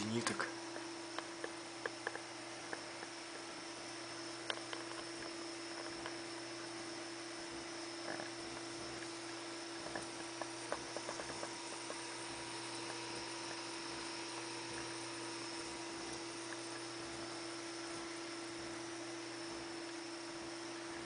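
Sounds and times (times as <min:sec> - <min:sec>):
electrical hum and hiss: 0:00.0 - 0:21.0.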